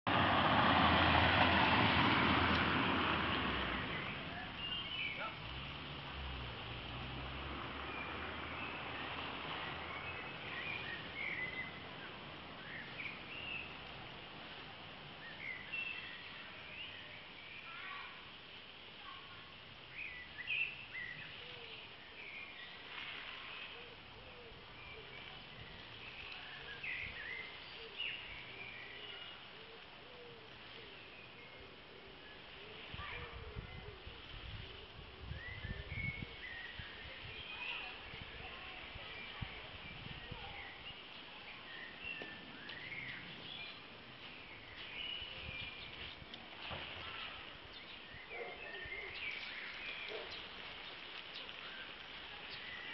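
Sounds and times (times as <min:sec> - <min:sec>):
steady outdoor hiss: 0:00.1 - 0:52.9
birds chirping: 0:02.0 - 0:18.3, 0:19.0 - 0:52.9.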